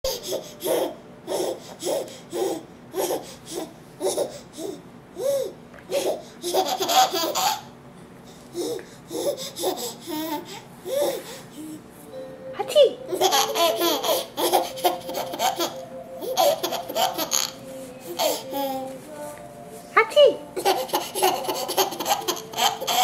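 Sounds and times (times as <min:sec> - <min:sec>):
baby laughing: 0:00.1 - 0:07.7, 0:08.5 - 0:11.8, 0:13.1 - 0:18.9, 0:20.6 - 0:23.0.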